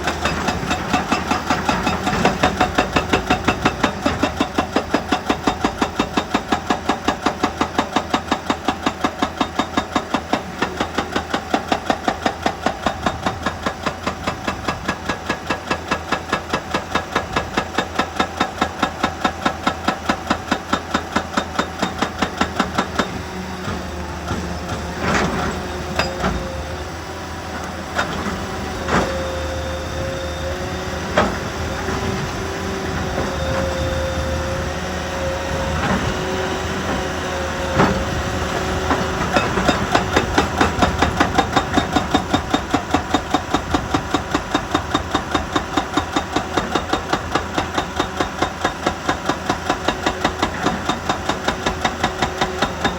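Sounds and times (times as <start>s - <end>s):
excavator running: 0.0s - 52.9s
hydraulic rock breaker hammering: 0.0s - 52.9s.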